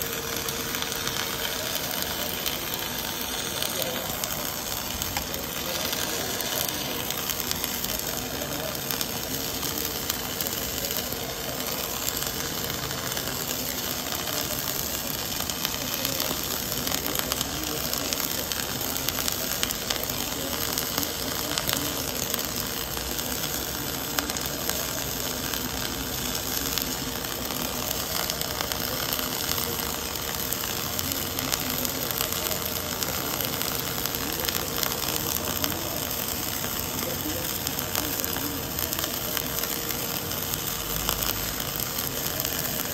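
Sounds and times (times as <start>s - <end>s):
welding arc crackling sizzle: 0.0s - 42.9s.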